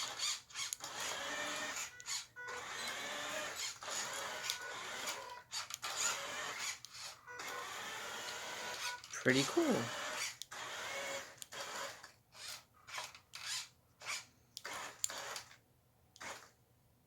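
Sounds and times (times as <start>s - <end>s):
small motors and gears whirring: 0.0s - 15.6s, 16.2s - 16.5s.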